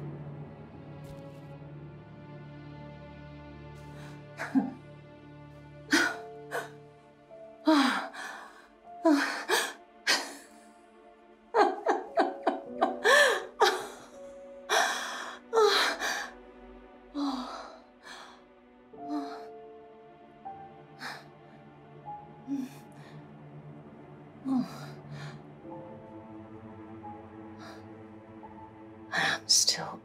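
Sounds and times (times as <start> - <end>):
soft film score: 0.0 - 30.0.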